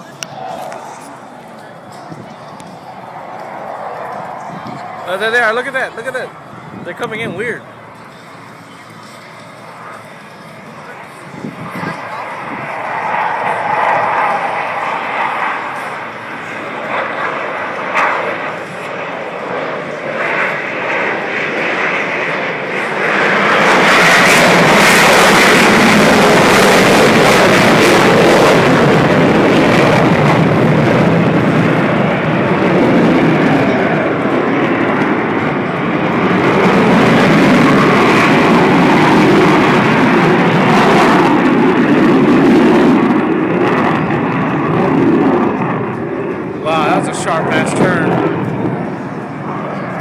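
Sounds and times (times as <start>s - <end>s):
jets flying past: 0.0s - 50.0s.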